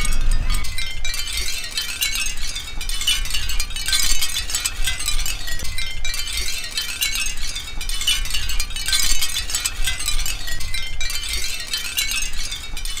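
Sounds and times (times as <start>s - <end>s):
shell wind chime tinkling: 0.0s - 13.0s.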